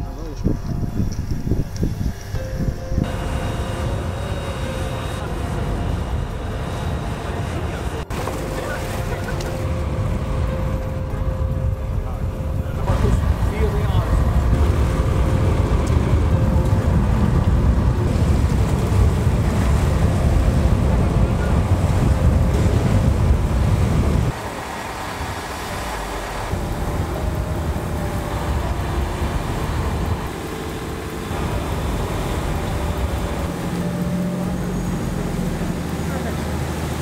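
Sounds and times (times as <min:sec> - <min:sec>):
wind on microphone: 0:00.0 - 0:34.6
boat engine running: 0:00.0 - 0:37.0.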